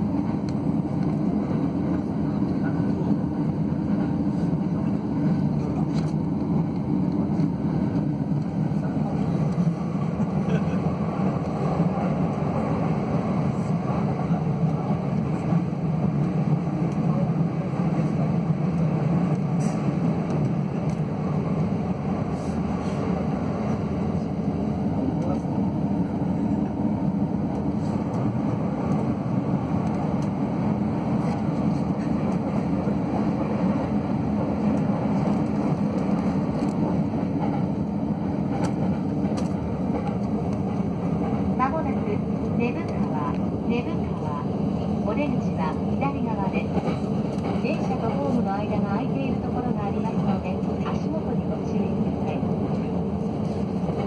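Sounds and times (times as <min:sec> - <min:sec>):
train rumble from inside: 0:00.0 - 0:54.0.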